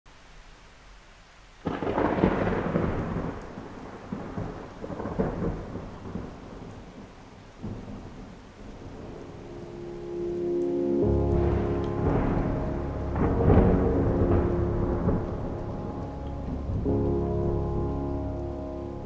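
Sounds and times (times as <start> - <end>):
rain hissing: 0.1 - 19.0
thunder clap and rumble: 1.6 - 9.6, 11.0 - 19.0.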